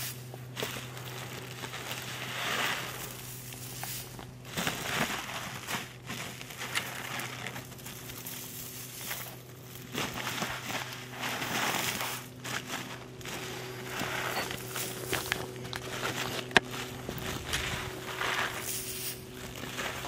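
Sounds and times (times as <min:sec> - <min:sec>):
low hum: 0:00.0 - 0:20.0
plastic bag crinkling: 0:00.4 - 0:20.0.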